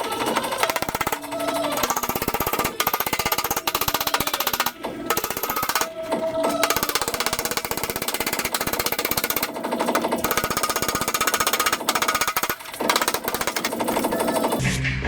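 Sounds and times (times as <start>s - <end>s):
power tool hammering: 0.0s - 14.6s.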